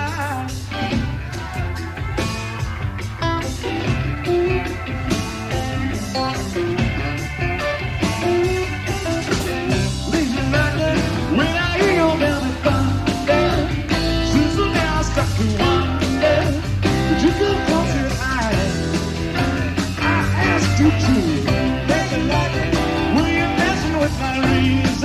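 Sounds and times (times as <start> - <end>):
lead guitar line bending: 0.0 - 25.0
rock band playing: 0.0 - 25.0.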